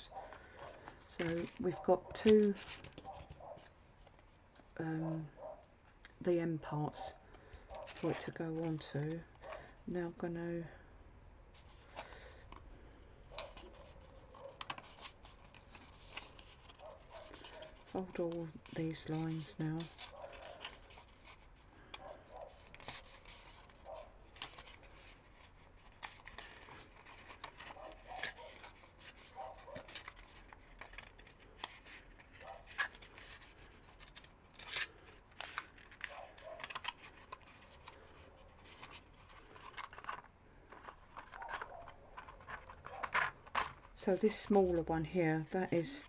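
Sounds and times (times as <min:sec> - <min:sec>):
card folding crackles and rustles: 0:00.0 - 0:06.0, 0:06.6 - 0:10.2, 0:11.5 - 0:46.0.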